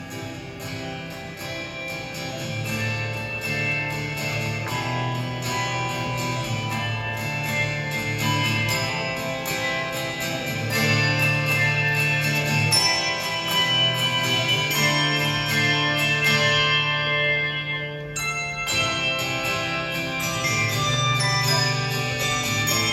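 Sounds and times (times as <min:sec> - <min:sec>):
handbell choir playing chords: 0:00.0 - 0:22.9.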